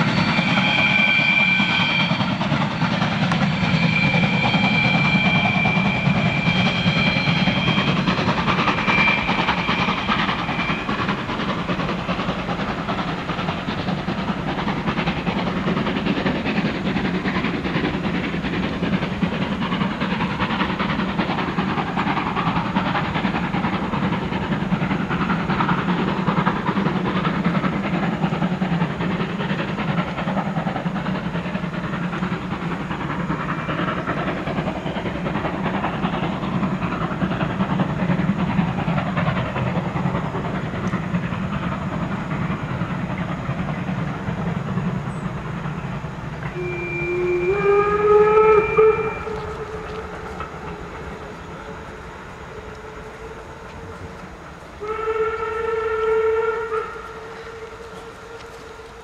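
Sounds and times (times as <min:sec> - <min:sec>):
steam locomotive working hard: 0:00.0 - 0:59.0.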